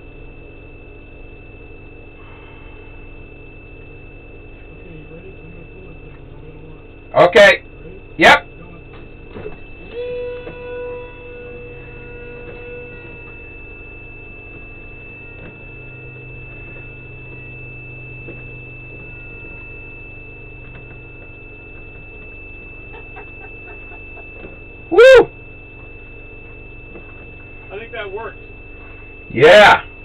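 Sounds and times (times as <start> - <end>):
held electronic tone: 0.0 - 30.0
high-pitched electronic whine: 0.0 - 30.0
low electronic hum: 0.0 - 30.0.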